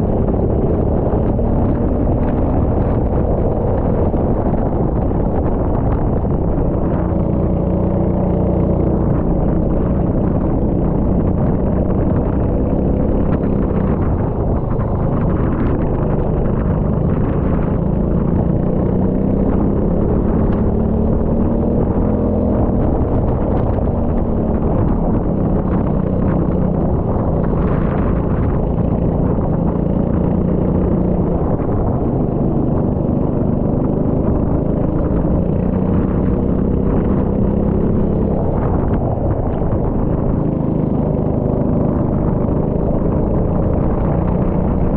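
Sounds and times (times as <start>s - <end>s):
kart engine running: 0.0s - 44.9s.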